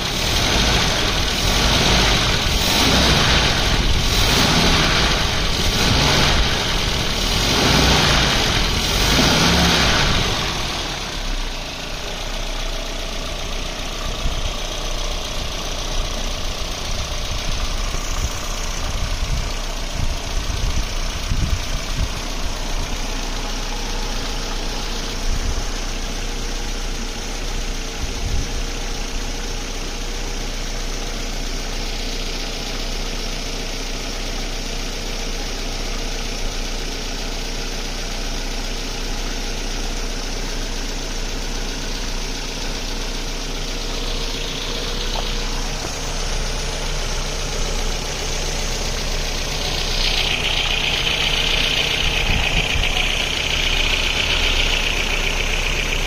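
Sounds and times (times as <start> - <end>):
car engine revving and idling: 0.0 - 56.0.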